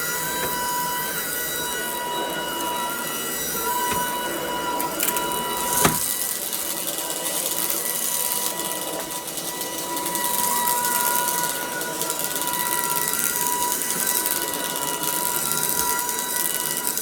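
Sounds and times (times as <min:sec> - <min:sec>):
stick vacuum motor whine: 0:00.0 - 0:17.0.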